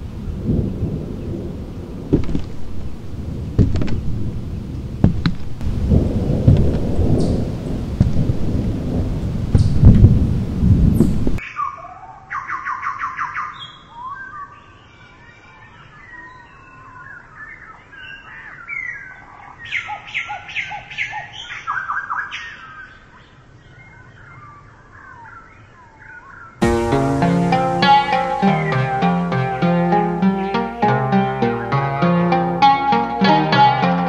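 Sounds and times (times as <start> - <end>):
songbirds chirping: 0.1 - 34.0.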